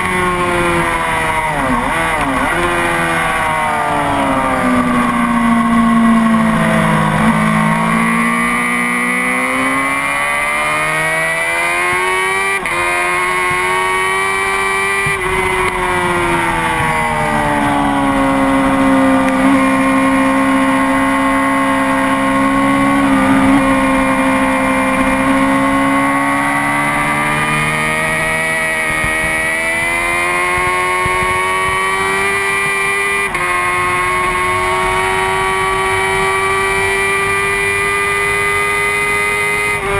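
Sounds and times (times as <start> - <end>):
sport bike engine revving: 0.0 - 39.9.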